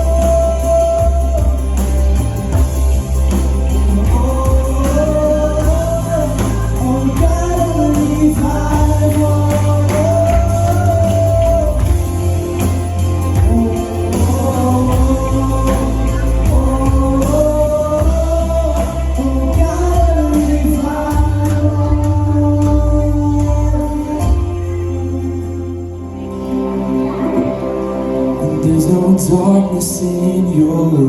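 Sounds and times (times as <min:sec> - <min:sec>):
bass and drums: 0:00.0 - 0:26.2
worship band playing: 0:00.0 - 0:31.0.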